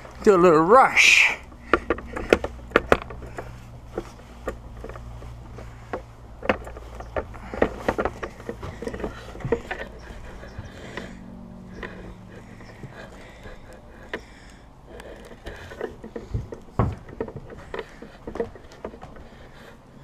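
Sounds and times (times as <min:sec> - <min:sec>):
footsteps: 0:00.0 - 0:20.0
steady low hum: 0:00.0 - 0:20.0
knocks and clicks: 0:01.4 - 0:20.0.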